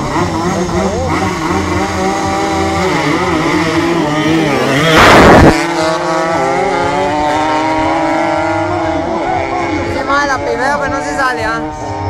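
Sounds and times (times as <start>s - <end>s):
motorcycles accelerating hard: 0.0s - 12.0s
motorcycles revving: 0.0s - 12.0s.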